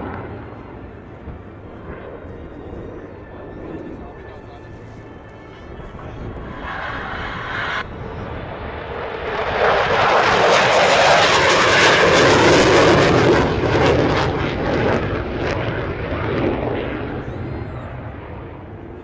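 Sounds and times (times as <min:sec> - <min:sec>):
military aircraft flying past: 0:00.0 - 0:19.0.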